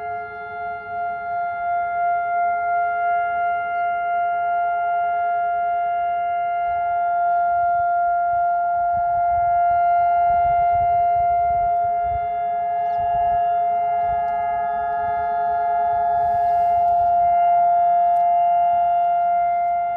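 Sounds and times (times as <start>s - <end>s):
steady siren tone: 0.0s - 19.9s.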